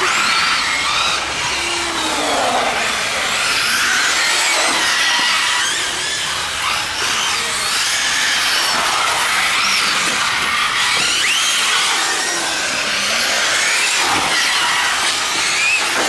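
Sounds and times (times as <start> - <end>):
model car motors whining: 0.0 - 16.0.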